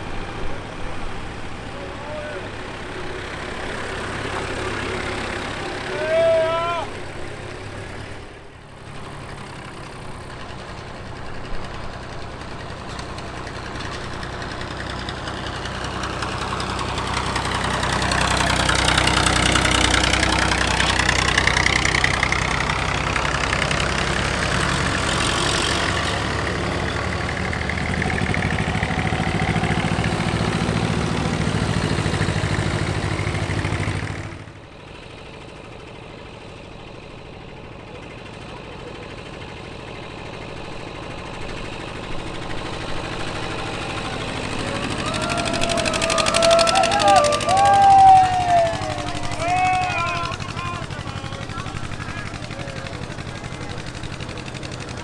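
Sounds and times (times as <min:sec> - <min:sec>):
tractor engines driving past: 0:00.0 - 0:55.0.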